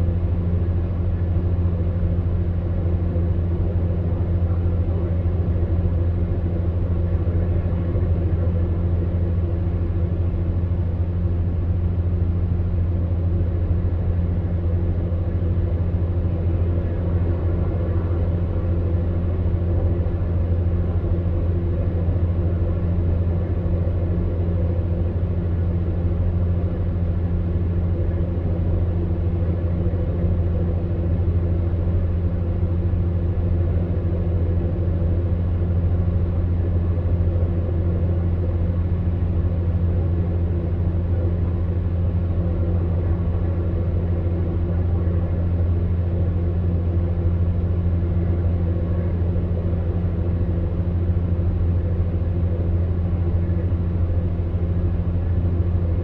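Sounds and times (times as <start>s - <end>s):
fan heater hum: 0.0s - 56.0s.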